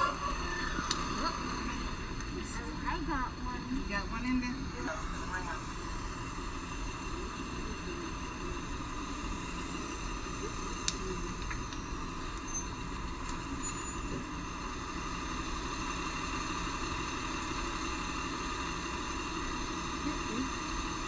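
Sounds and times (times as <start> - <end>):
vehicle engine hum from inside: 0.0 - 21.0.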